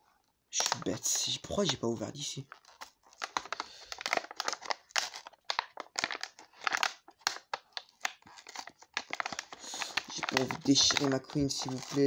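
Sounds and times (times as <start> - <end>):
plastic blister pack crinkling: 0.5 - 12.0.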